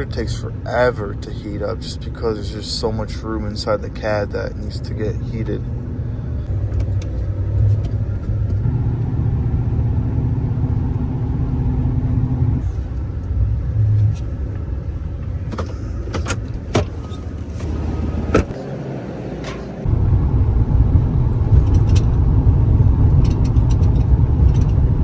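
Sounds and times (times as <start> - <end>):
truck engine and road drone: 0.0 - 25.0.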